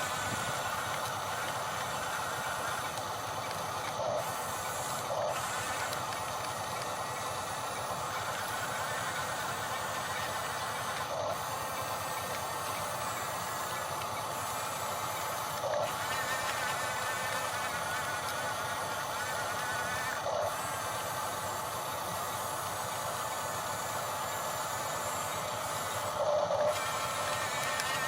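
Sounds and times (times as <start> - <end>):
model vehicle whirring hiss: 0.0 - 28.0.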